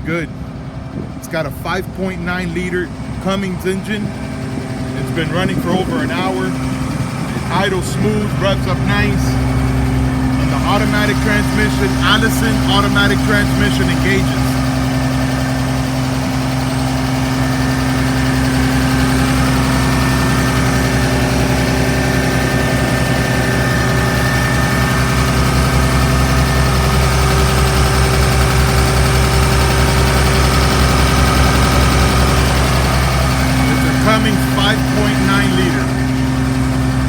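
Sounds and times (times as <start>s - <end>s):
diesel bus engine idling: 0.0s - 37.0s.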